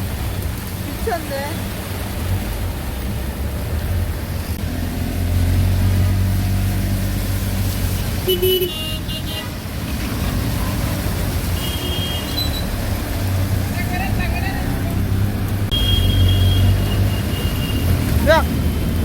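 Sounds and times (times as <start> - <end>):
auto-rickshaw engine droning: 2.8 - 19.0.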